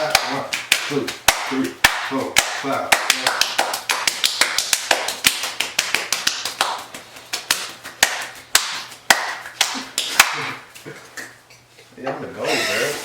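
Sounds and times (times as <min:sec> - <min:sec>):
hands clapping and slapping: 0:00.0 - 0:11.4.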